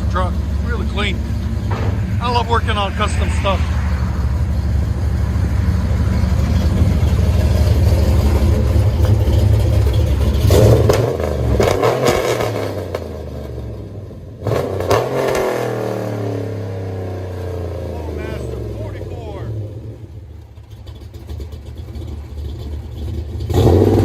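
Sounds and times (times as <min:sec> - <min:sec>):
engine idling with deep rumble: 0:00.0 - 0:14.9, 0:15.8 - 0:24.0
engine revving: 0:00.0 - 0:20.2, 0:23.4 - 0:24.0.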